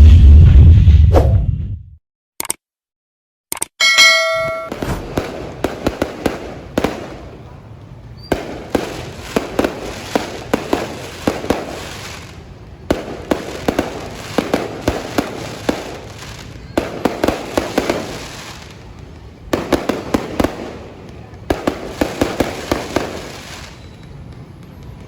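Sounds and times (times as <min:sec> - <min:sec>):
fireworks bangs: 0:04.5 - 0:25.0
fireworks crackling: 0:04.7 - 0:25.0.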